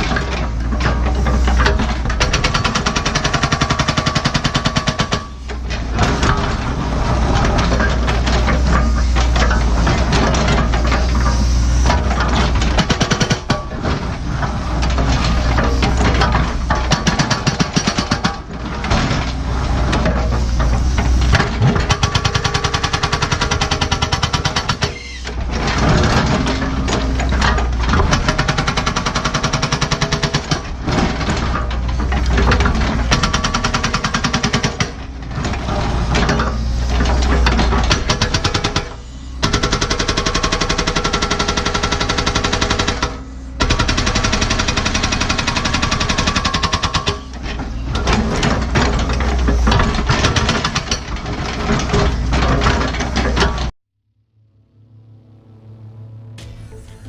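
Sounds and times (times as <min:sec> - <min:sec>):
diesel engine running: 0:00.0 - 0:50.4, 0:54.4 - 0:57.0
hydraulic hammer pounding rock: 0:00.0 - 0:53.7.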